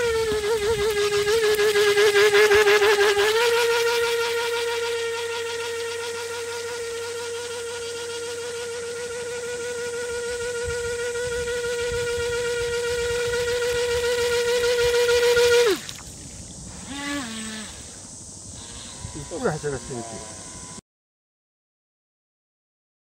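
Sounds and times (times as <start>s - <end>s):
model boat motor whining: 0.0s - 20.8s.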